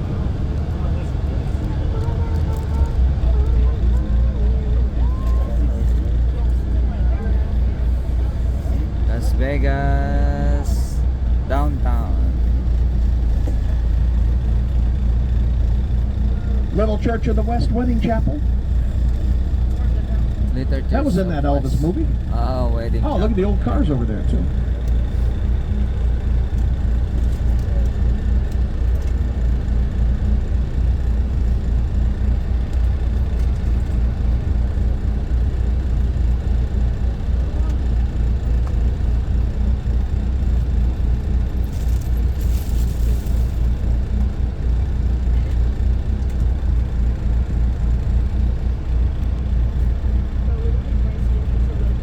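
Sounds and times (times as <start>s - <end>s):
bus engine and road rumble: 0.0s - 52.0s.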